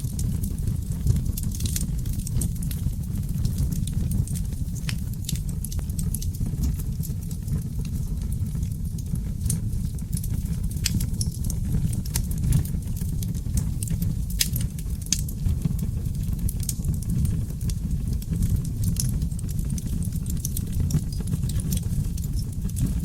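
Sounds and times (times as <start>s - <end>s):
fire crackling and popping: 0.0s - 23.0s
low roar of flames: 0.0s - 23.0s.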